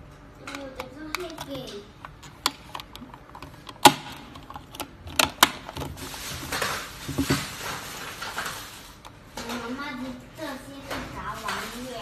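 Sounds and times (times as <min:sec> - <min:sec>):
plastic scraping and handling: 0:00.6 - 0:09.8, 0:10.8 - 0:12.0.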